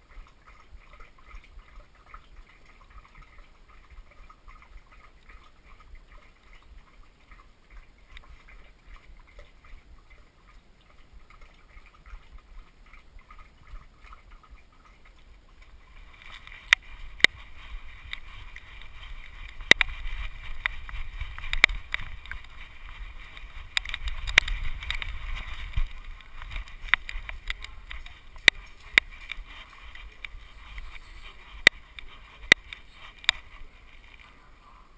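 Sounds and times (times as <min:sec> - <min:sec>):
camera rubbing and rumbling: 0:00.0 - 0:34.6.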